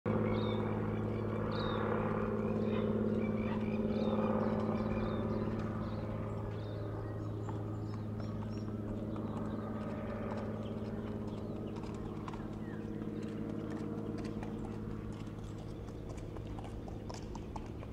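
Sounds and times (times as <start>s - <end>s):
low motor hum: 0.1s - 17.9s
small birds chirping: 0.2s - 17.9s.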